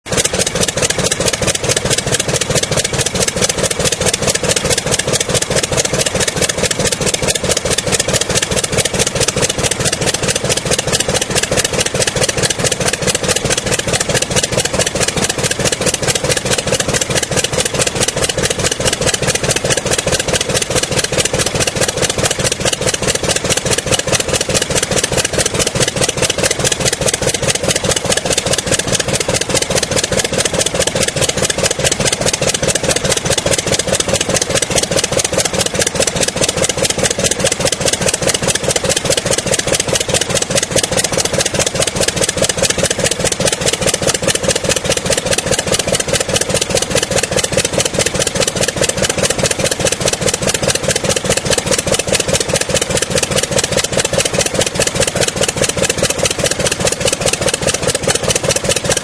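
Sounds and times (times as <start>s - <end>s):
aircraft engine running: 0.1s - 59.0s.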